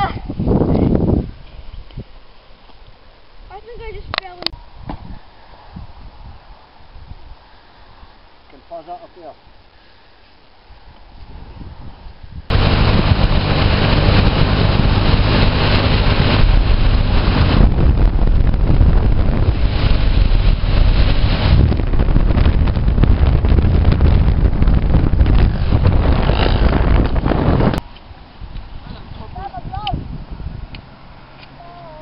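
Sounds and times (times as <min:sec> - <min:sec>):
wind noise on microphone: 0:00.0 - 0:08.3, 0:09.5 - 0:32.0.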